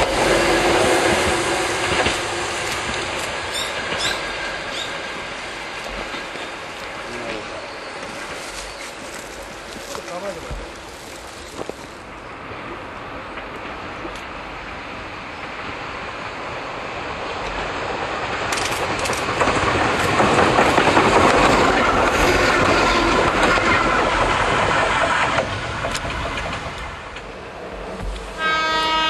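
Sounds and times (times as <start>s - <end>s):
wheels clacking over rail joints: 0.0s - 12.1s, 17.2s - 29.0s
electric railcar approaching: 0.0s - 29.0s.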